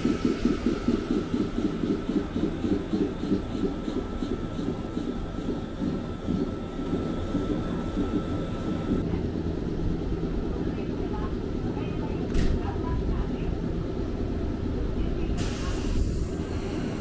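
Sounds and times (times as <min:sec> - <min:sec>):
train equipment low hum: 0:00.0 - 0:17.0.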